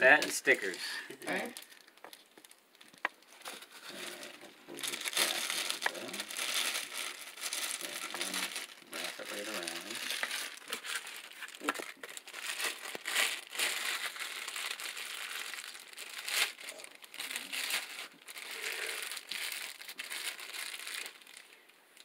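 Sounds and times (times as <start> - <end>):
plastic bag crinkling: 0.1 - 22.0.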